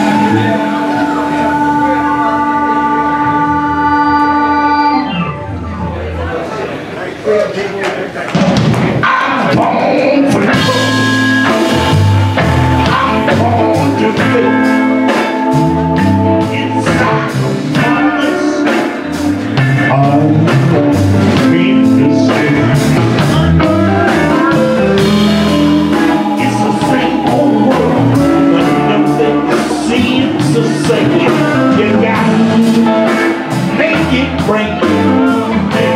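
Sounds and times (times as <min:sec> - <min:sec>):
electric guitar: 0:00.0 - 0:06.4, 0:08.3 - 0:35.9
live blues band playing: 0:00.0 - 0:06.7, 0:08.3 - 0:35.9.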